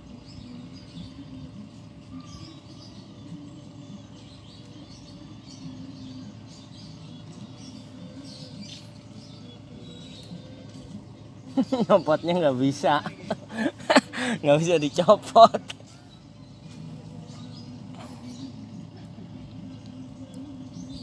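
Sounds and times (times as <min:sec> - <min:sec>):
low background murmur: 0:00.0 - 0:14.4, 0:15.7 - 0:21.0
small birds chirping: 0:00.0 - 0:21.0.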